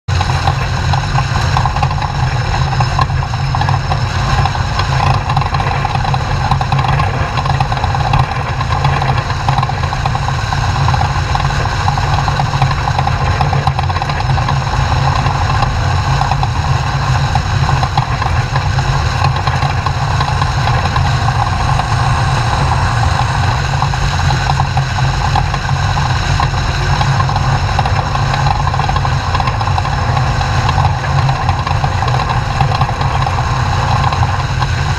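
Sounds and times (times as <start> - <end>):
truck engine running: 0.0 - 34.9.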